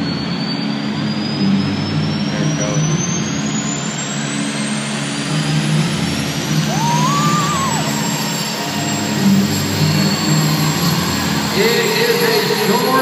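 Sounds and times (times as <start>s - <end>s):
high whine rising in pitch: 0.0s - 13.0s
monster truck engine running: 0.0s - 13.0s.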